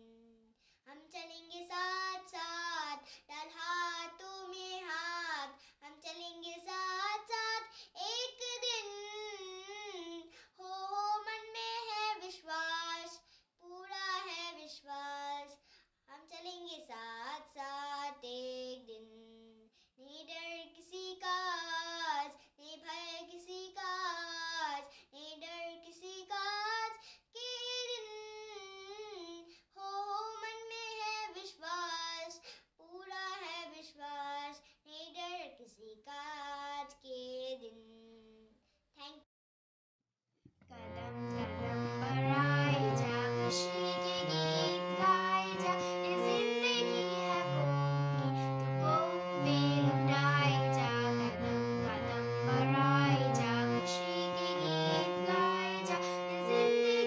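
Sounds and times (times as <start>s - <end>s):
child singing: 0.0s - 39.2s, 40.8s - 57.0s.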